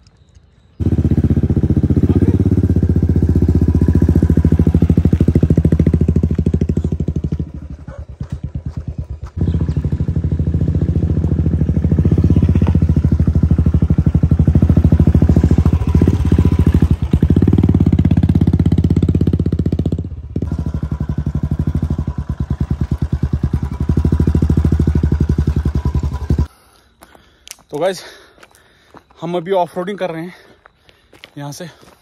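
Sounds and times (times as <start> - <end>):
motorcycle engine running: 0.8 - 26.5.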